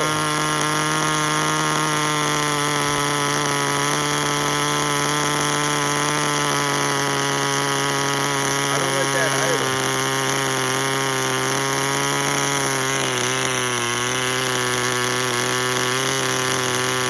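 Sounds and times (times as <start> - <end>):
small nitro engine running: 0.0 - 17.0.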